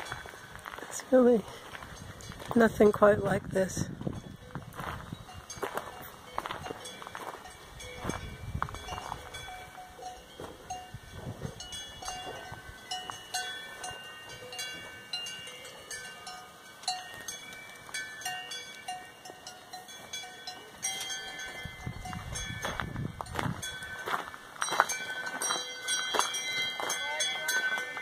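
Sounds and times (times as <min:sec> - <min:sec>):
cowbells clanking: 0:00.0 - 0:28.0.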